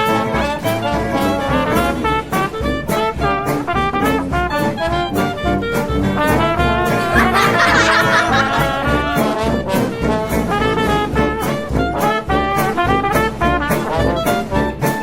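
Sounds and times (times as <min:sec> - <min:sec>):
upbeat brass music: 0:00.0 - 0:14.9.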